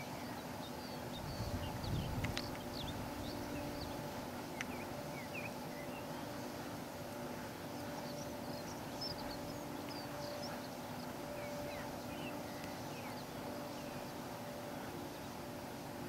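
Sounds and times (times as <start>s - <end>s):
distant songbirds chirping: 0.0s - 16.0s
steady low hum and hiss: 0.0s - 16.0s.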